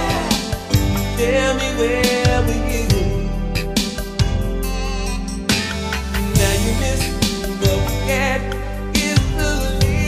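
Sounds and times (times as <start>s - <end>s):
slow instrumental ballad: 0.0s - 10.0s.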